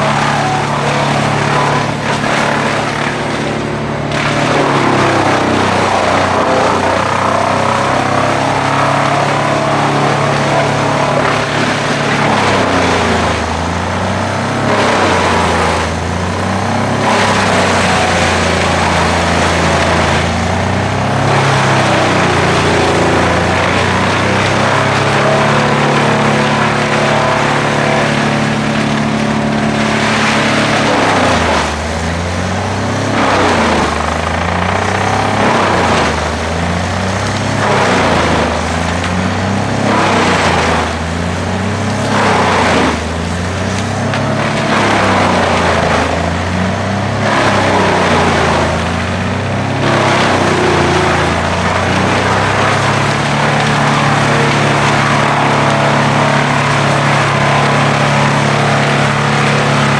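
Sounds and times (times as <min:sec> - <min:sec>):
tractor engine labouring: 0:00.0 - 0:59.9
wood chipper shredding wood: 0:00.0 - 0:59.9.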